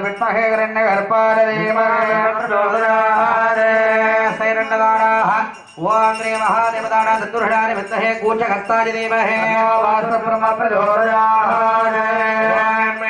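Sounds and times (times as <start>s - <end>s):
mantras chanted: 0.0s - 13.0s.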